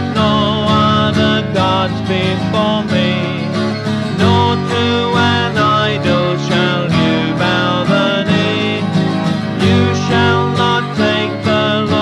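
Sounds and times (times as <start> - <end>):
country song with acoustic guitar: 0.0 - 12.0.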